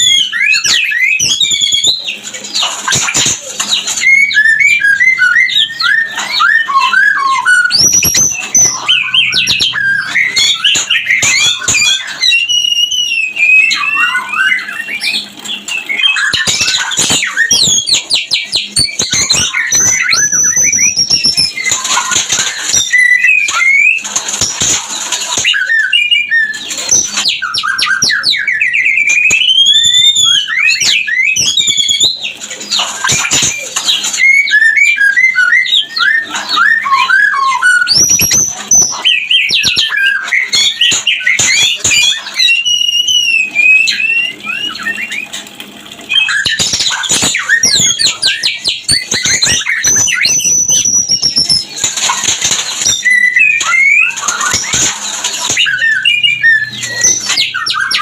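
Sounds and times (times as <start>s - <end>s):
bird song with whistles and trills: 0.0s - 58.0s.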